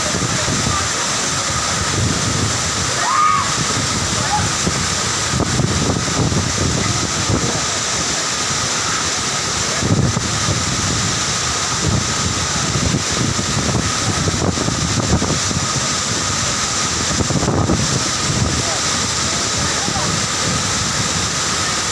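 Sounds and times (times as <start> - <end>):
low rumbling: 0.0 - 21.8
waterfall rushing: 0.0 - 21.9.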